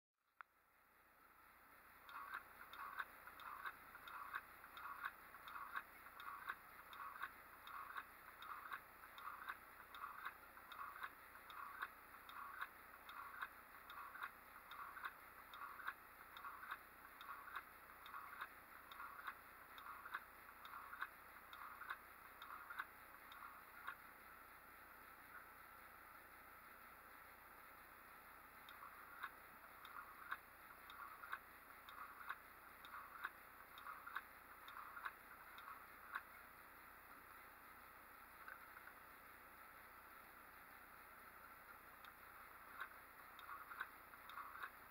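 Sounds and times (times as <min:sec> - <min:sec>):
solenoid engine clicking: 0:01.7 - 0:44.9.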